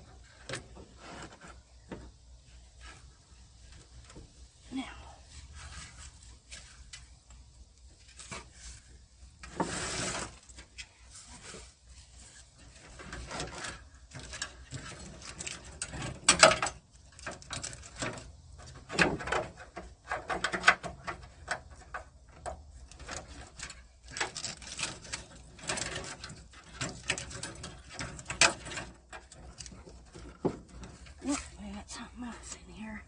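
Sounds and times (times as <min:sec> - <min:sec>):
hand work clicks and scrapes: 0:00.0 - 0:04.3, 0:05.4 - 0:32.9.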